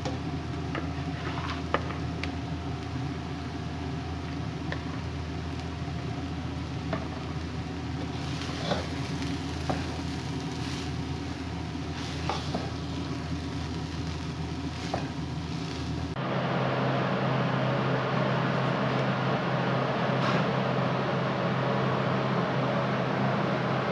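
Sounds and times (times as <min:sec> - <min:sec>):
rice frying in a pan: 0:00.0 - 0:23.9
steady low hum: 0:00.0 - 0:23.9.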